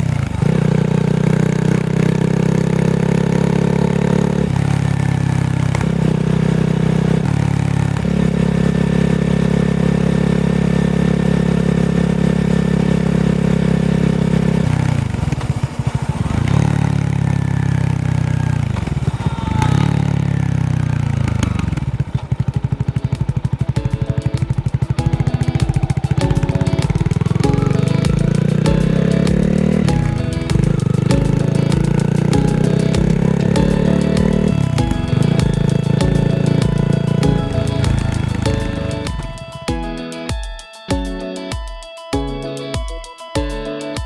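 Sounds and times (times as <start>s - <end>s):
motorcycle engine revving: 0.0s - 39.7s.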